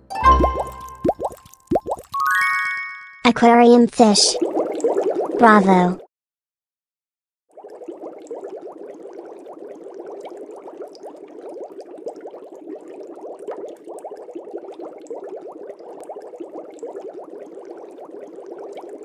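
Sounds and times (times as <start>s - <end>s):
aquarium water bubbling: 0.4s - 2.5s, 4.0s - 6.1s, 7.5s - 19.0s.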